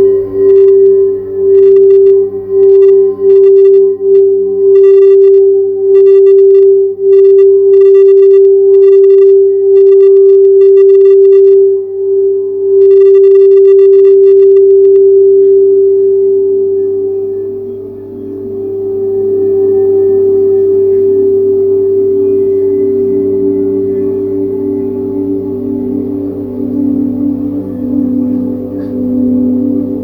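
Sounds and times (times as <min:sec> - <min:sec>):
singing bowl ringing tone: 0:00.0 - 0:30.0.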